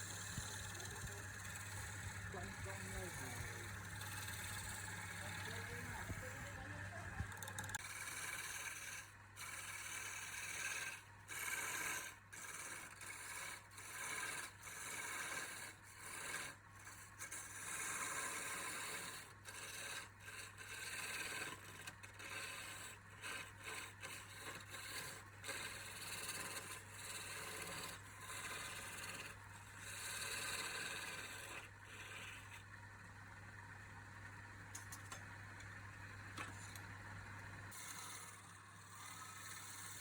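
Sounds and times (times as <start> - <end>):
lathe motor hum: 0.0 - 40.0
wood scraping on a lathe: 0.0 - 40.0.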